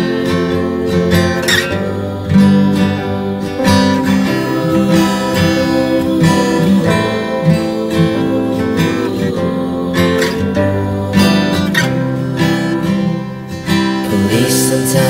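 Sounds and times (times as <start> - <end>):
acoustic guitar strummed and plucked: 0.0 - 15.0.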